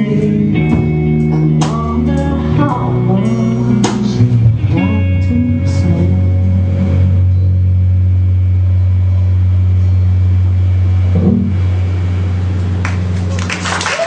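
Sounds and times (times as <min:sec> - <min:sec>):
held bass note drone: 0:00.0 - 0:13.6.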